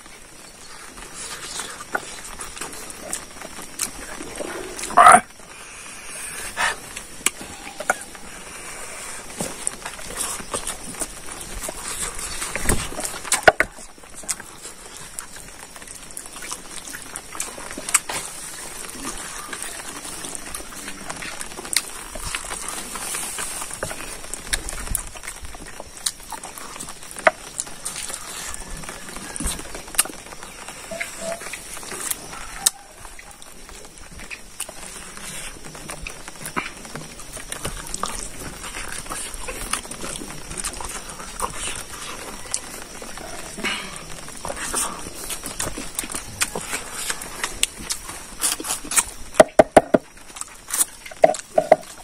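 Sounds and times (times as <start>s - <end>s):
man chewing food: 0.0s - 52.0s.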